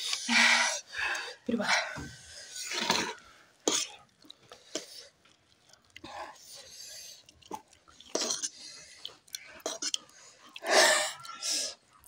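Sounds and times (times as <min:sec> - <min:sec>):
chewing: 0:02.2 - 0:12.0.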